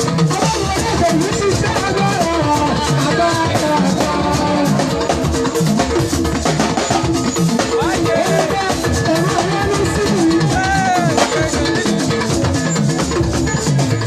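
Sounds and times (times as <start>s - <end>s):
drum kit beat: 0.0s - 14.0s
gospel band music: 0.0s - 14.0s.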